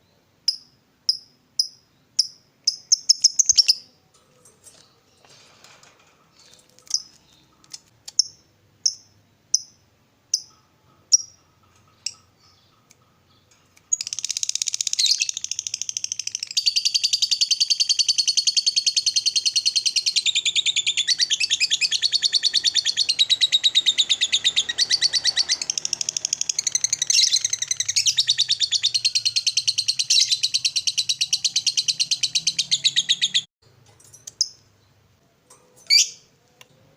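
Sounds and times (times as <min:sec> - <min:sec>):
bird chirps: 0:00.0 - 0:05.4, 0:06.3 - 0:33.5, 0:35.8 - 0:36.4
rapid chattering bird trill: 0:00.5 - 0:03.9, 0:06.4 - 0:33.5.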